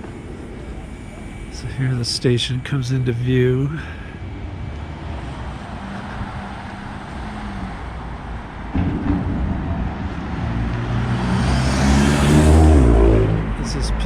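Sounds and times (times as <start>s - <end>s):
tyre noise from passing cars: 0.0s - 14.0s
vehicle engines: 0.0s - 14.0s.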